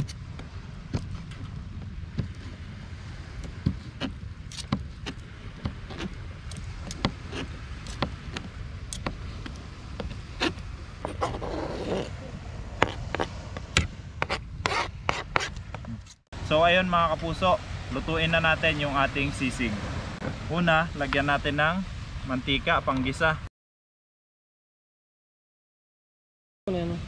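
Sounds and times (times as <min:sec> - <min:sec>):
steady low rumble: 0:00.0 - 0:23.5.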